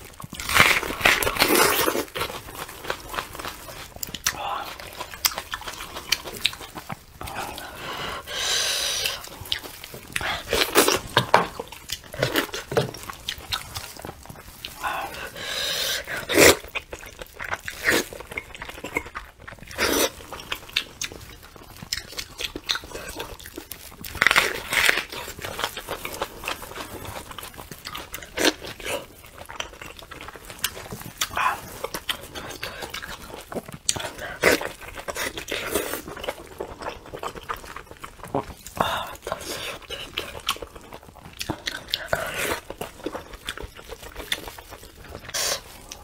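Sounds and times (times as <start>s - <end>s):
wet chewing and smacking: 0.0s - 46.0s.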